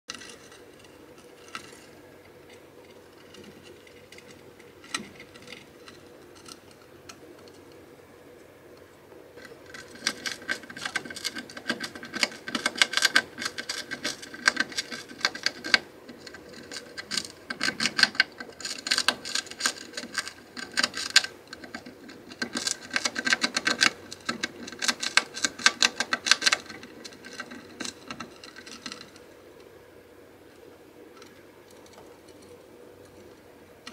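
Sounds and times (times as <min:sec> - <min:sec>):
hamster gnawing: 0:00.1 - 0:07.9, 0:09.4 - 0:33.9.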